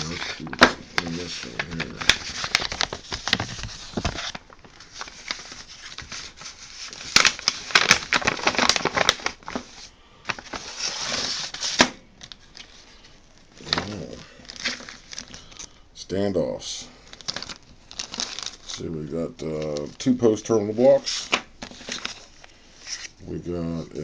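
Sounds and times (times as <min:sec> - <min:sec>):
plastic bags crinkling: 0:00.0 - 0:15.8, 0:17.0 - 0:23.1.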